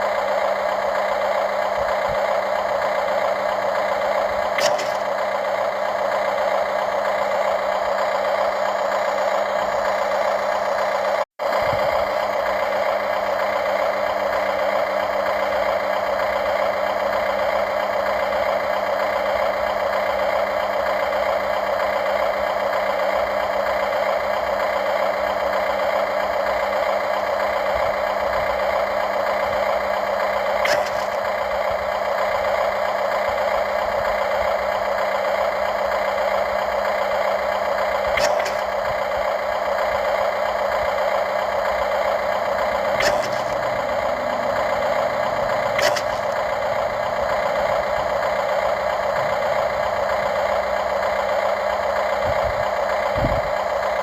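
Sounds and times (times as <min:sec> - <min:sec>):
model excavator motors whirring: 0:00.0 - 0:54.0.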